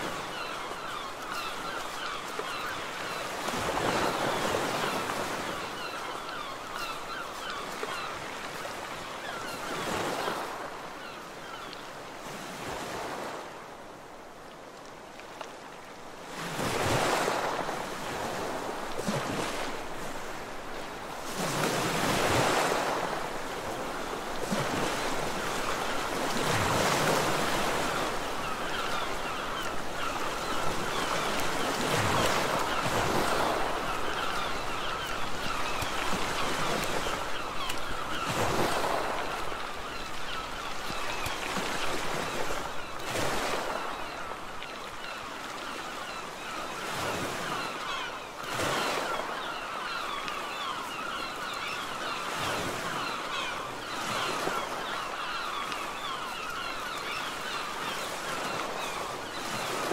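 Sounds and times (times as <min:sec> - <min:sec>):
sea surf washing onto shore: 0:00.0 - 0:59.9.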